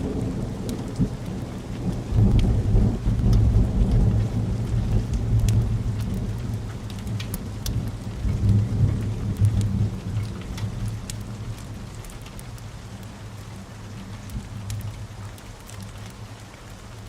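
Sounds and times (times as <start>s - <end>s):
wood fire crackling: 2.2s - 17.0s.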